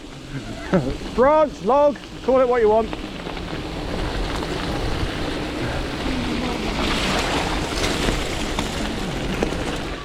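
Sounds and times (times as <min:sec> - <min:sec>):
bike tyre noise on wet trail: 0:00.0 - 0:10.0
wind buffeting microphone: 0:00.7 - 0:10.0.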